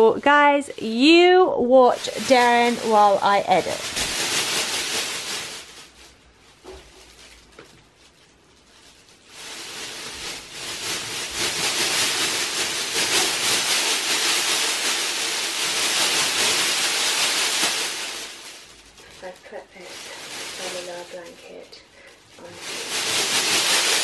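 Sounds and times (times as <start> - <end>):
foil blanket crinkling: 0.0 - 24.0.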